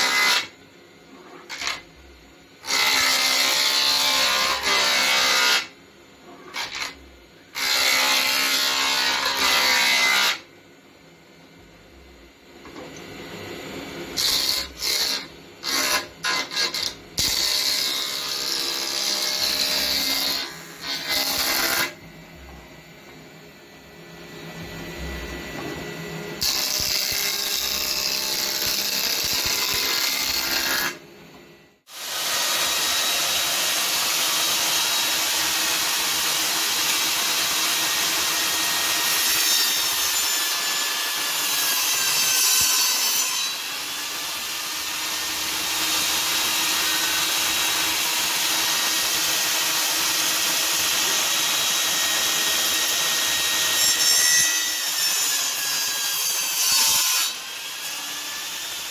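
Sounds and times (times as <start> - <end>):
table saw cutting wood: 0.0 - 1.9, 2.6 - 10.5, 13.8 - 22.5, 24.3 - 31.0, 31.8 - 58.9.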